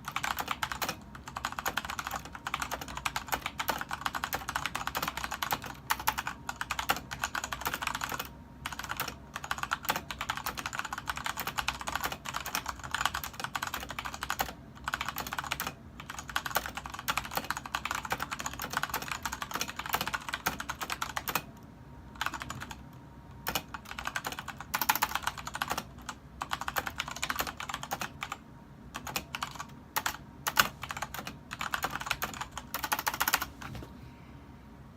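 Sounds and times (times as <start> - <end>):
fast mechanical keyboard typing: 0.0 - 33.6.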